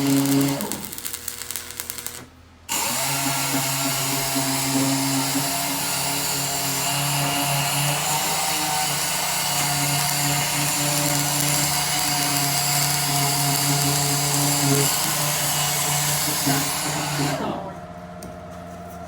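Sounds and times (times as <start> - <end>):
power tool whining: 0.0 - 18.2.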